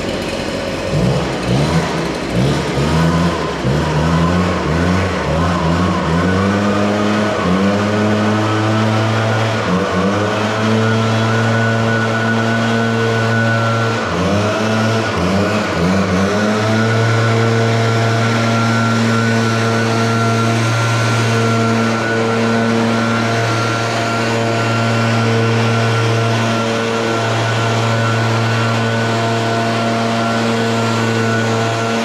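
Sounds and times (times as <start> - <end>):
pressure washer motor humming: 0.0 - 32.0.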